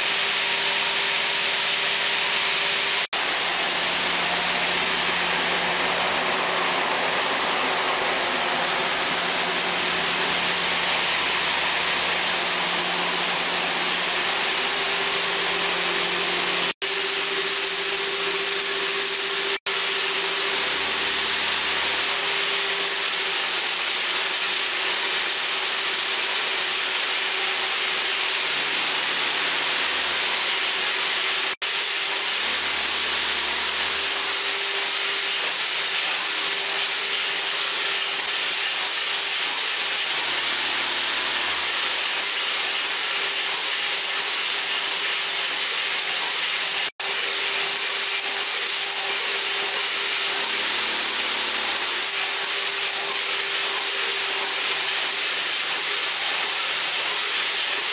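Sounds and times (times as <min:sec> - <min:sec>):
loud even machinery hiss: 0:00.0 - 0:57.9.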